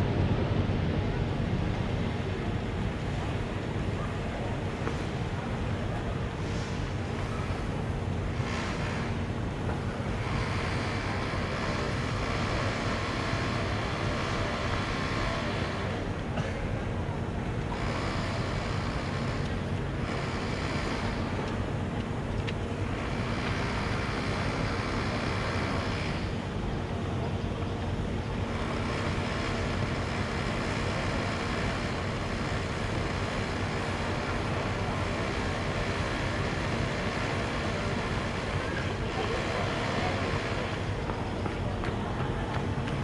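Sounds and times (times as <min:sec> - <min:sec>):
surrounding traffic noise: 0:00.0 - 0:43.0.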